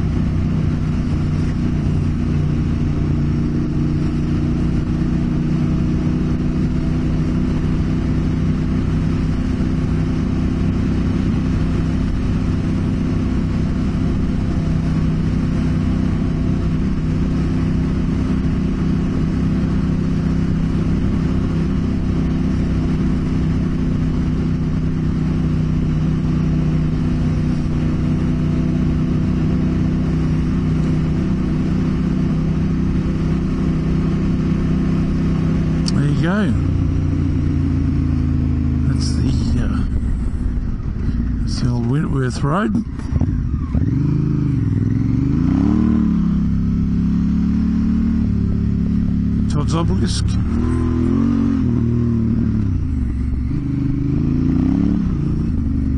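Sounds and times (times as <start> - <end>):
constant rushing noise: 0.0 - 55.9
motorcycle engine cruising: 0.0 - 55.9.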